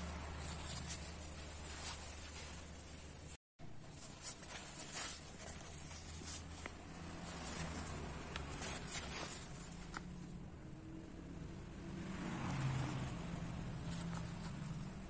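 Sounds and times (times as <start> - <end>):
faint rustling: 0.0 - 10.5, 13.0 - 15.0.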